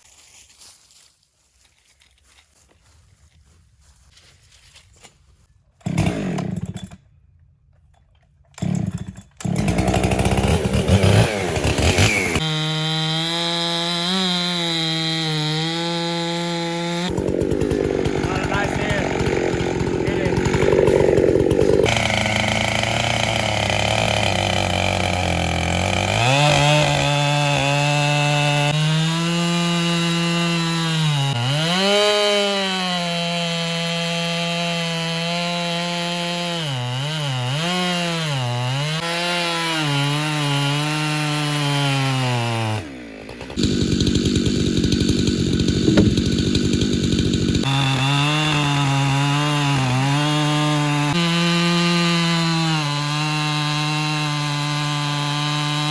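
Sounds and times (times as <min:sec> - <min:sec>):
chainsaw cutting through log: 0:05.8 - 0:07.0, 0:08.6 - 0:55.9.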